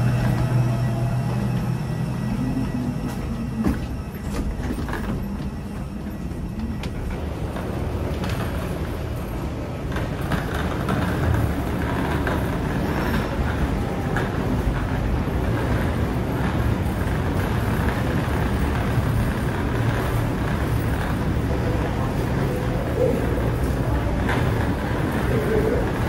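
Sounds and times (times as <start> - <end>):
wheeled suitcases rolling on hard floor: 0.0 - 26.0.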